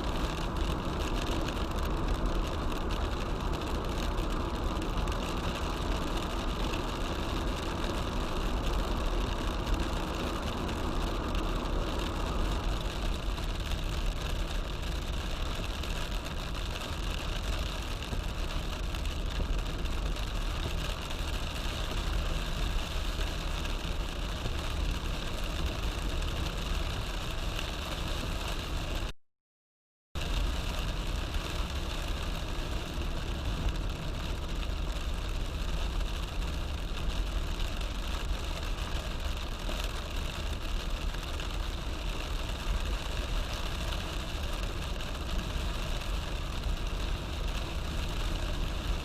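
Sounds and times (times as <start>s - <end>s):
heavy rain: 0.0s - 29.1s, 30.2s - 49.0s
tyres on wet road: 0.0s - 29.1s, 30.2s - 49.0s.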